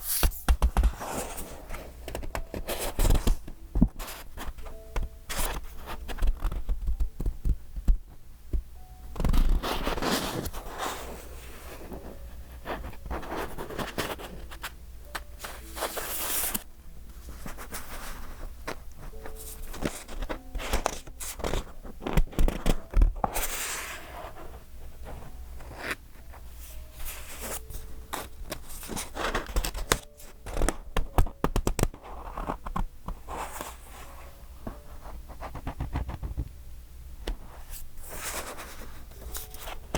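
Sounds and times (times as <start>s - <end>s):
paper pages flipping: 0.0s - 7.0s, 9.2s - 24.5s, 25.1s - 36.4s, 37.6s - 39.9s
soft taps scrapes and crinkles: 0.0s - 8.6s, 9.2s - 36.5s, 37.3s - 39.9s.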